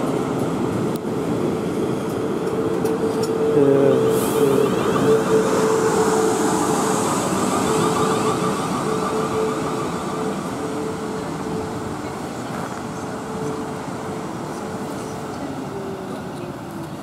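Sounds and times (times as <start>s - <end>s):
electric train whine: 0.0s - 17.0s
train wheels rumbling on rails: 0.0s - 17.0s.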